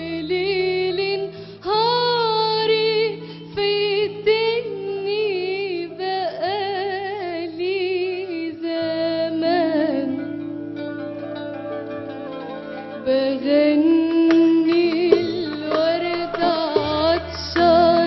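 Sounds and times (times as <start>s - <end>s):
woman singing with vibrato: 0.0s - 10.4s, 13.0s - 18.0s
plucked string notes: 0.0s - 18.0s.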